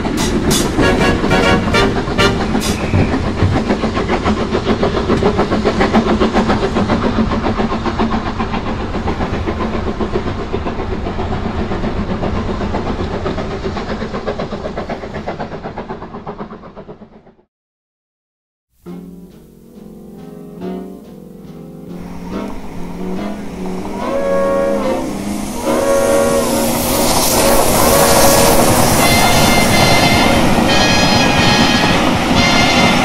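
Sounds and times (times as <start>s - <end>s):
steam locomotive chuffing: 0.0s - 17.5s, 18.9s - 33.0s.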